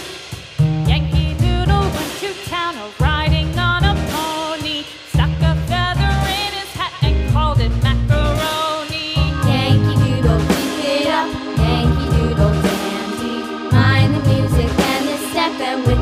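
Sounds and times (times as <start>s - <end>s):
song with bass and drums: 0.0s - 16.0s.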